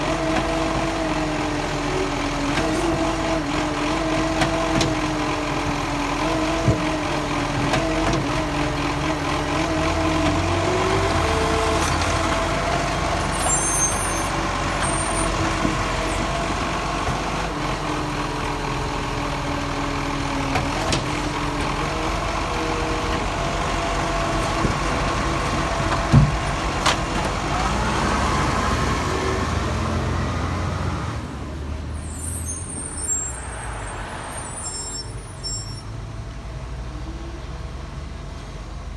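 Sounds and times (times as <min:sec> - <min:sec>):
garbage truck diesel engine: 0:00.0 - 0:38.9.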